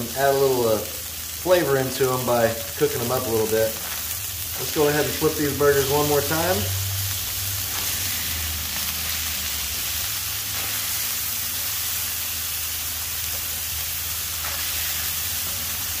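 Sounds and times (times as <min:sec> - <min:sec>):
food sizzling on griddle: 0:00.0 - 0:16.0.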